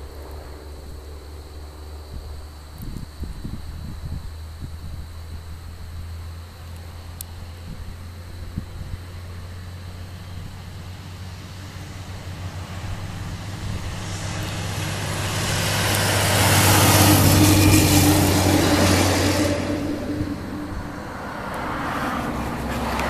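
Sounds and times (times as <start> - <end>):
dump truck engine drone: 0.0 - 23.0
road traffic: 0.0 - 23.0.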